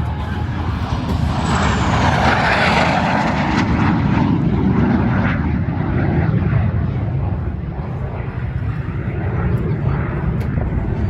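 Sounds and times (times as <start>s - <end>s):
airplane engine passing overhead: 0.0s - 11.0s.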